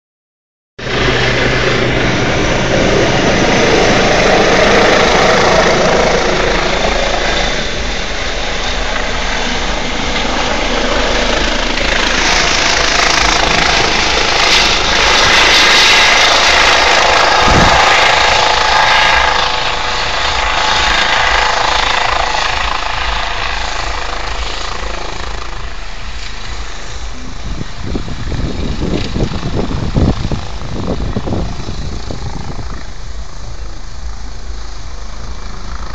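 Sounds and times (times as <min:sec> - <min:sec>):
helicopter rotors and engine: 0:00.8 - 0:35.9
wind buffeting microphone: 0:00.8 - 0:35.9.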